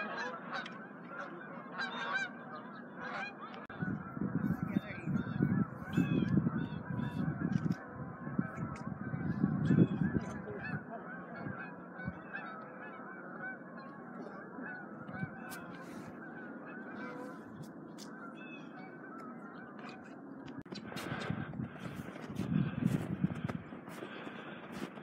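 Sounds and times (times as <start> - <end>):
geese honking: 0.0 - 25.0.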